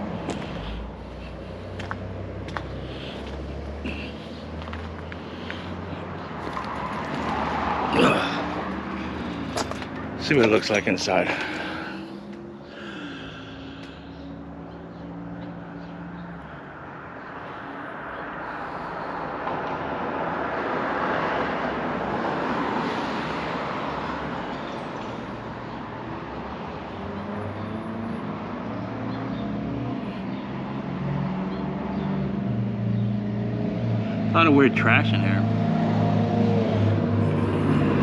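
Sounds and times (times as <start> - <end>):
vehicle passing: 0.0 - 24.5, 25.1 - 38.0.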